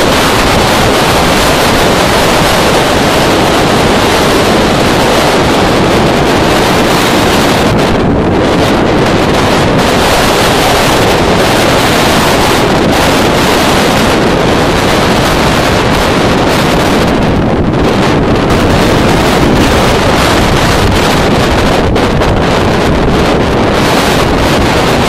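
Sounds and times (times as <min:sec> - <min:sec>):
wind gusts on microphone: 0:00.0 - 0:25.0.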